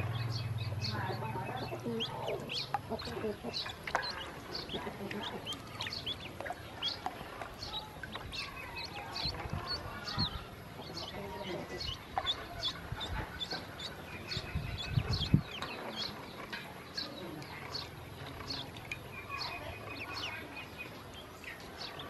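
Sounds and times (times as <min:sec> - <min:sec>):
ducklings peeping: 0:00.0 - 0:22.0.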